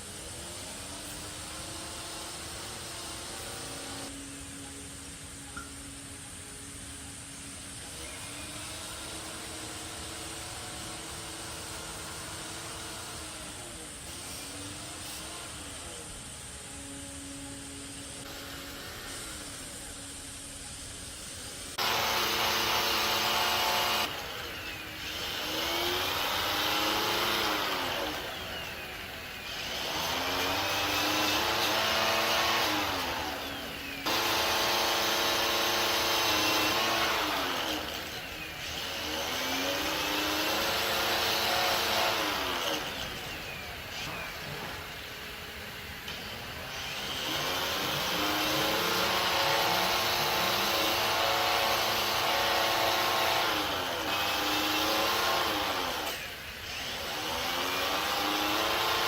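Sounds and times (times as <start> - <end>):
power tool motor running: 0.0 - 4.7, 7.4 - 59.0.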